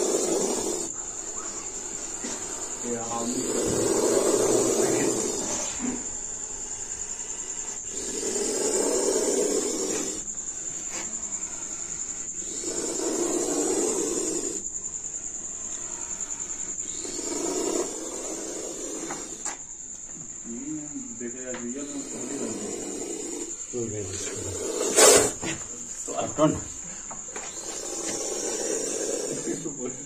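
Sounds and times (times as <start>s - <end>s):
cobra hissing: 0.0s - 30.0s.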